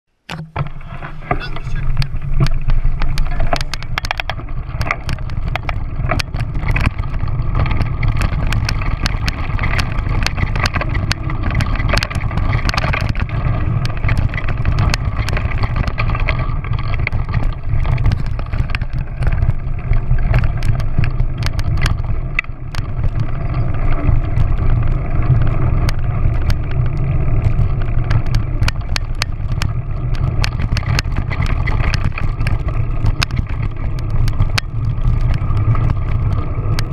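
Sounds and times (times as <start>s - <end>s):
clicks and rattles over bumps: 0.2s - 36.9s
motorcycle engine: 0.2s - 36.9s
wind rumble: 0.6s - 36.9s.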